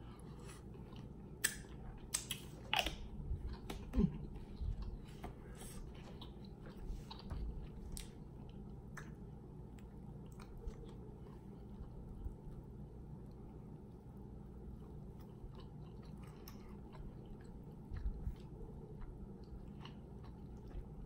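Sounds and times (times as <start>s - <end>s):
person chewing with lip smacks: 0.2s - 12.6s, 14.8s - 21.0s.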